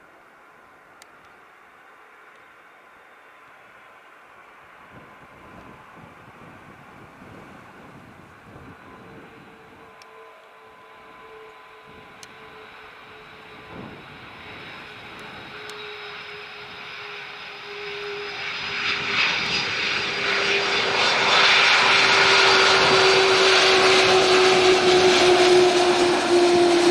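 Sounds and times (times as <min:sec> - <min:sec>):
jet engine whine: 0:00.0 - 0:26.9
jet engine roar: 0:00.6 - 0:26.9.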